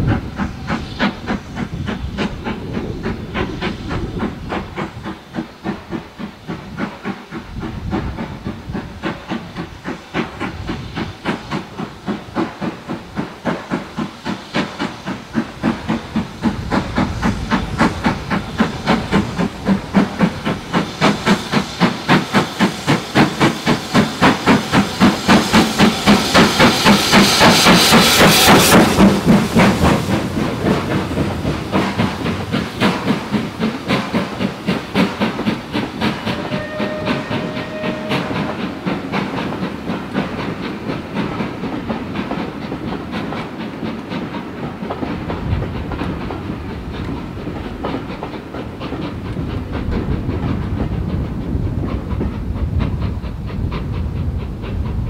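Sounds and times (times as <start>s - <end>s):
steam hissing: 0.0s - 55.0s
steam locomotive exhaust beats: 0.0s - 55.0s
train wheels clickety-clack: 0.0s - 55.0s.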